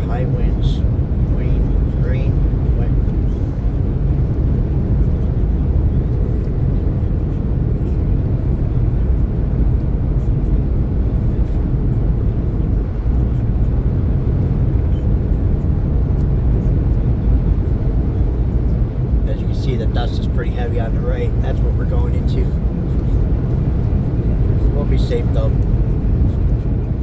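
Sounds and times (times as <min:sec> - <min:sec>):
road and wind noise in car: 0:00.0 - 0:27.0.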